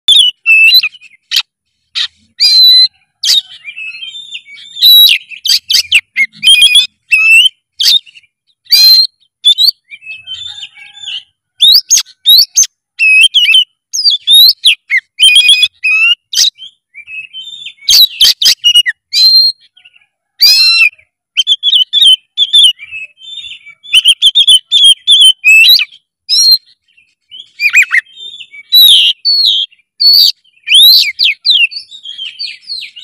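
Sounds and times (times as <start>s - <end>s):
songbird whistling and chirping: 0.0s - 33.0s.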